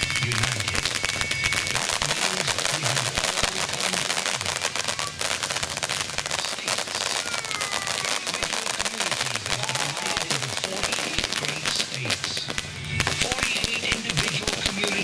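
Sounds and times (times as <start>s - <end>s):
firework crackling: 0.0s - 15.0s
firework whistles: 0.0s - 15.0s.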